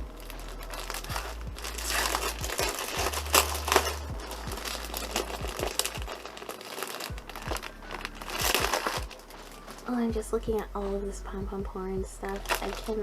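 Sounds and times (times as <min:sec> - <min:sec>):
packaging crinkling: 0:00.0 - 0:10.0, 0:12.3 - 0:13.0.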